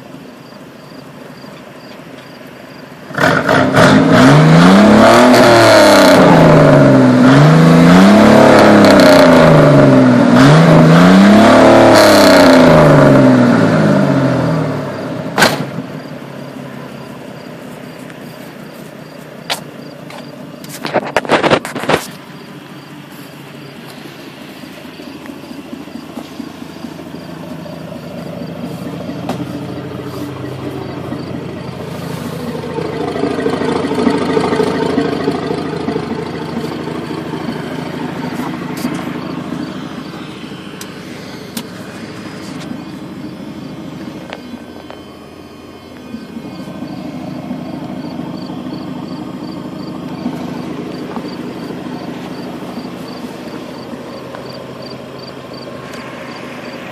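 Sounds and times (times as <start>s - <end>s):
pickup engine idling with revs: 0.0s - 56.9s.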